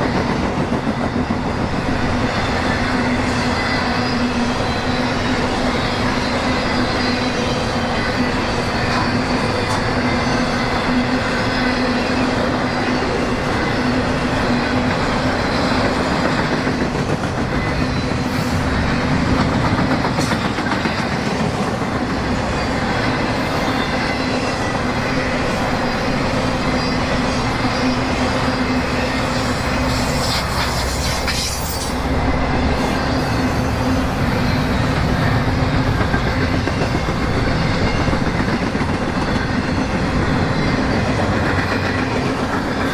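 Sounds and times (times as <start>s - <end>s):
freight train wheels clacking: 0.0s - 42.9s.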